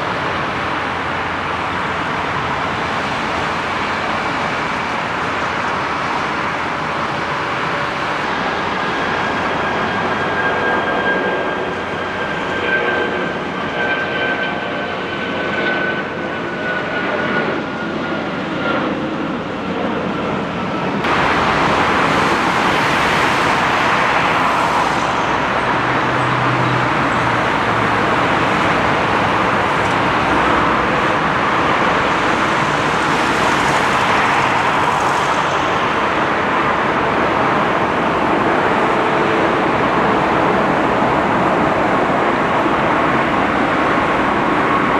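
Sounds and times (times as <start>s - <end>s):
jet engine whine: 0.0s - 44.9s
jet roar: 0.0s - 44.9s.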